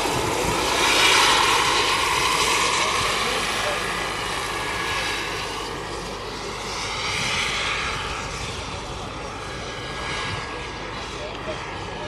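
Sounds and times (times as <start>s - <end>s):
helicopter flying past: 0.0s - 12.0s.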